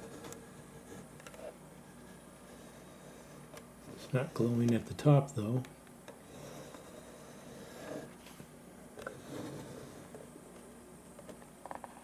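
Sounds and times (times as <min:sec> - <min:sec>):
plasma ball lamp humming: 0:00.0 - 0:12.0.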